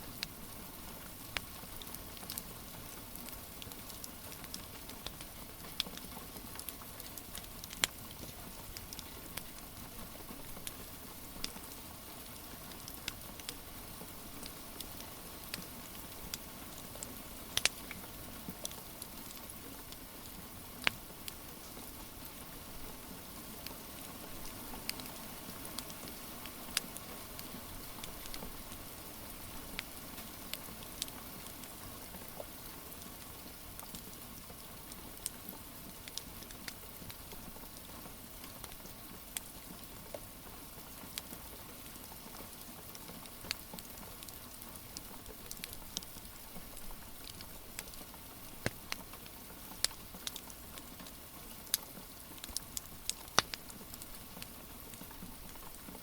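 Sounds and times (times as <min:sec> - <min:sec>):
rain hiss: 0:00.0 - 0:56.0
wood fire crackling and popping: 0:01.1 - 0:09.6, 0:12.3 - 0:21.7, 0:23.5 - 0:33.0, 0:34.8 - 0:40.2, 0:41.0 - 0:56.0.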